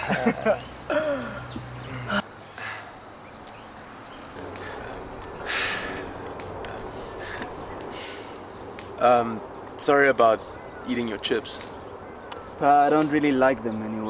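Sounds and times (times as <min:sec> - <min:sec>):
cricket chirping: 0:00.0 - 0:14.0
steady background hiss: 0:00.0 - 0:14.0.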